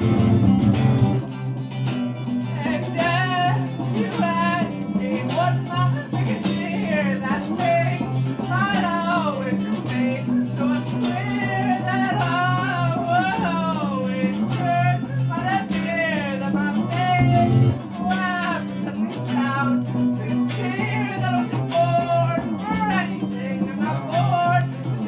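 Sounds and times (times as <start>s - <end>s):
guitar: 0.0s - 25.0s
steady bass notes: 0.0s - 25.0s
person singing: 2.5s - 25.0s.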